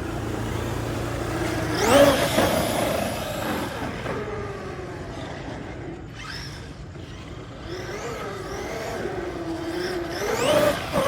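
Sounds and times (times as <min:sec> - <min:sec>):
small petrol engine revving: 0:00.0 - 0:04.9, 0:06.1 - 0:11.0.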